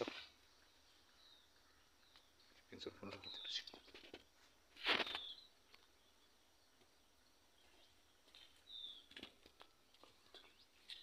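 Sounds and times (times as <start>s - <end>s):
bird chirping faintly: 0.0s - 11.0s.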